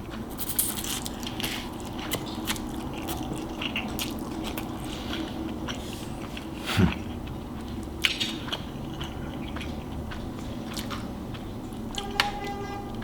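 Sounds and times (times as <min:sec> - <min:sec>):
wet chewing with crunches: 0:00.0 - 0:13.0.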